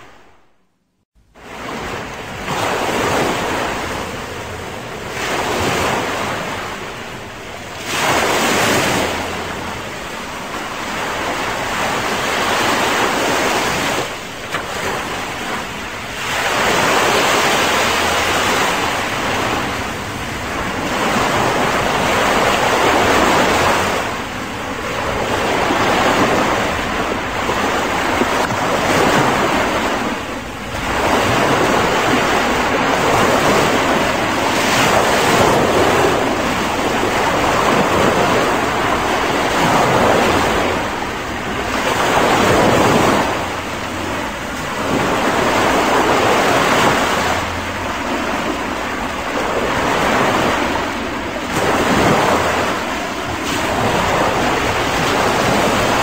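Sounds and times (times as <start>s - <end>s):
ocean waves on sandy beach: 0.0s - 0.6s, 1.2s - 56.0s.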